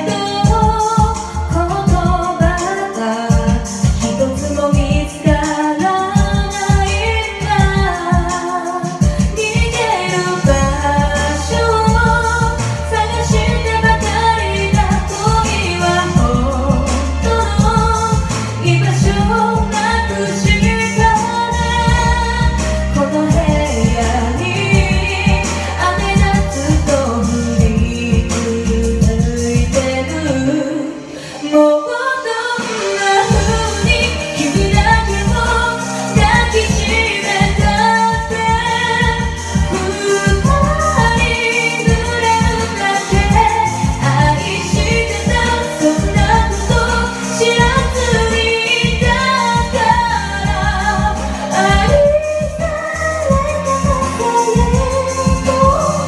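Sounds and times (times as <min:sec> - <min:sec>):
backing track with bass and beat: 0:00.0 - 0:31.5, 0:32.3 - 0:56.0
woman singing pop ballad: 0:00.0 - 0:56.0.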